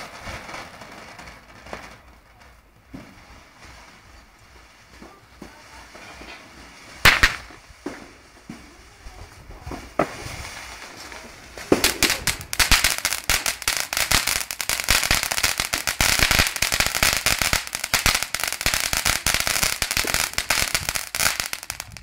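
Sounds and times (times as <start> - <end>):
firework sparks hissing: 0.0 - 8.3, 9.8 - 22.0
firework fountain crackling: 0.0 - 22.0.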